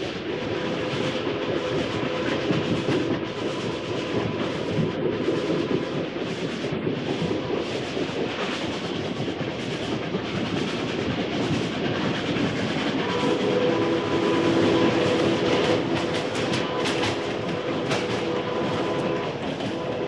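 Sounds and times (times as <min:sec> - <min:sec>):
steam train chuffing: 0:00.0 - 0:20.0.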